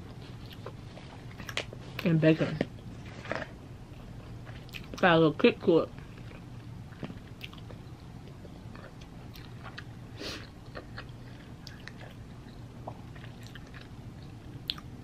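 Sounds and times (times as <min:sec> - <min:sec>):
person chewing: 0:00.1 - 0:01.8, 0:02.6 - 0:05.0, 0:06.0 - 0:14.9.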